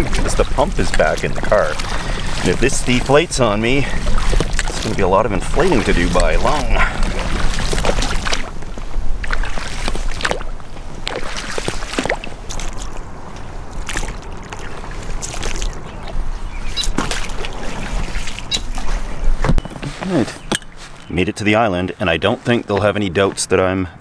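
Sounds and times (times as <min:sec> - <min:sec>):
wind rumble on microphone: 0:00.0 - 0:20.9
paddle splashing in water: 0:00.0 - 0:21.1.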